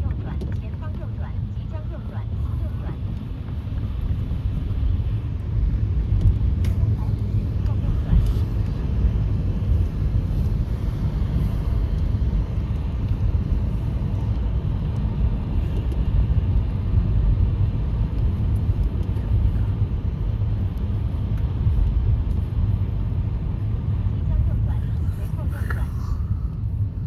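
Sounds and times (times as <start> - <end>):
road and tyre noise in car: 0.0 - 27.0.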